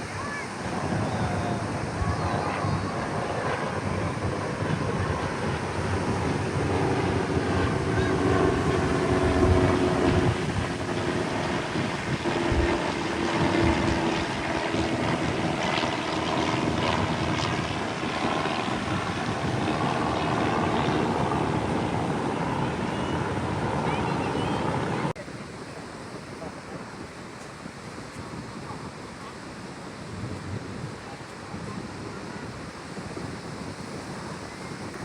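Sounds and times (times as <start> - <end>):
propeller airplane flying over: 0.0 - 35.0.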